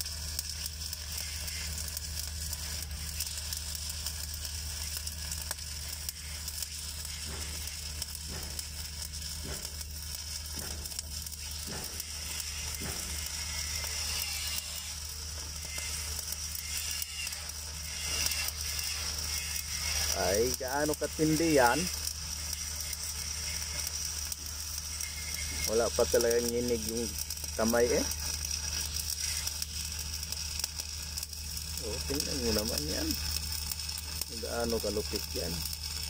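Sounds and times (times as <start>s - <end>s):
welding arc crackling hiss: 0.0s - 36.0s.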